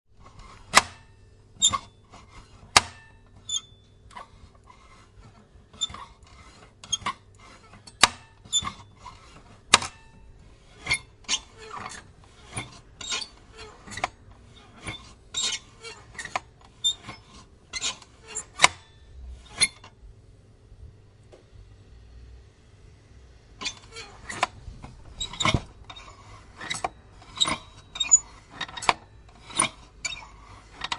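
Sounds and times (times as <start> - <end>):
hinge rubbing: 0.2 - 19.9, 23.6 - 30.9.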